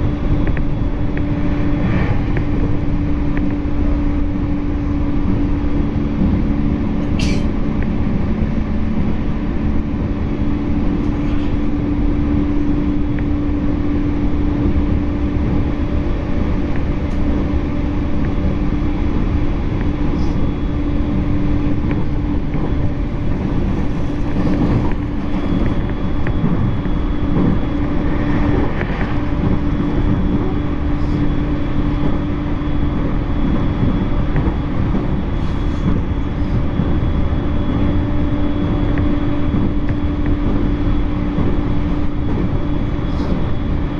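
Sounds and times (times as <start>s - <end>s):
steady train hum: 0.0s - 43.9s
train wheels rumbling on rail: 0.0s - 43.9s.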